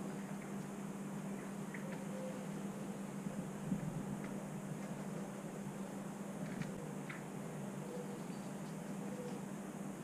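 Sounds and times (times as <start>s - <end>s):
constant low hum: 0.0s - 10.0s
outdoor background hiss: 0.0s - 10.0s.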